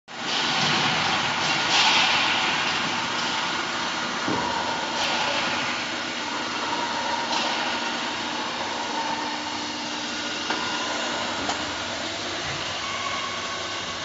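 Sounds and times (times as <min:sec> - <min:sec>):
faint machine hum: 0:00.1 - 0:14.0.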